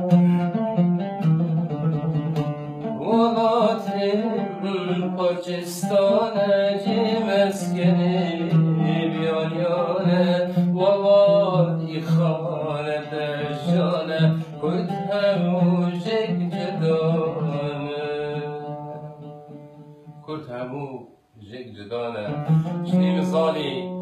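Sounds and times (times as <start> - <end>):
oud accompaniment: 0.0 - 21.0.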